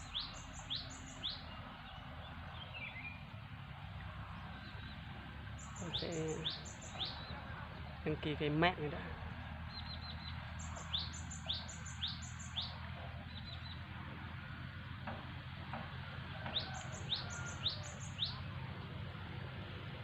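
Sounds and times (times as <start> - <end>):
songbird chirping: 0.0 - 14.4, 15.7 - 19.6.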